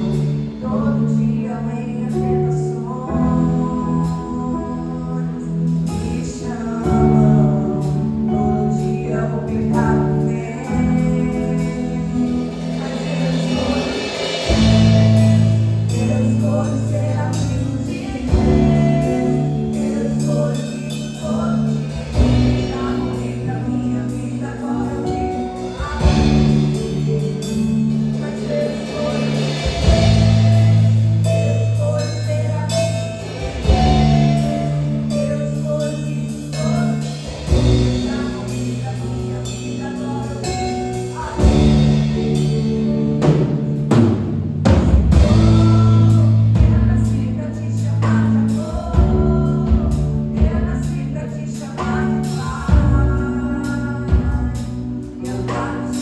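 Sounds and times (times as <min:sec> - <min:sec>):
steady drum beat: 0:00.0 - 0:56.0.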